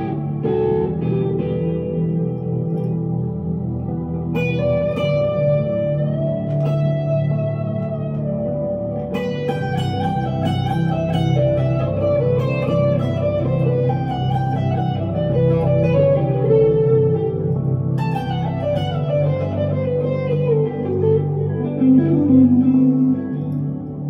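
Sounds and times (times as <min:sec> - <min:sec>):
electric guitar lead: 0:00.0 - 0:24.0
sustained low tones: 0:00.0 - 0:24.0.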